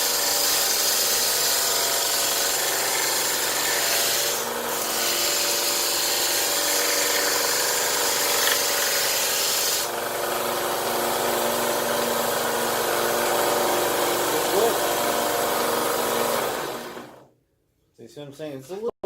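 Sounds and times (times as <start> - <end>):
belt sander sanding wood: 0.0 - 17.2.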